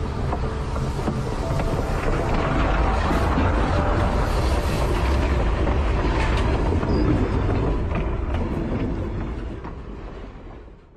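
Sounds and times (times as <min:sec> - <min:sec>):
low rumbling noise: 0:00.0 - 0:10.9.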